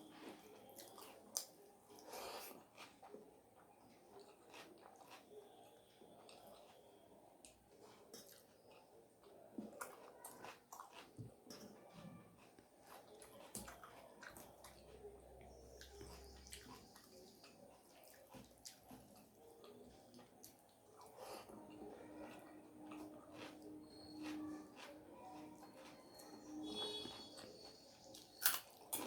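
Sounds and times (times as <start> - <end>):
person chewing: 0.1 - 3.2, 4.1 - 6.8, 7.4 - 11.8, 12.4 - 29.0.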